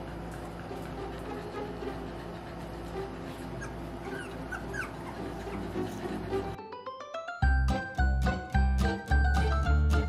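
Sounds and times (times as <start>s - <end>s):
soft background music: 0.4s - 10.0s.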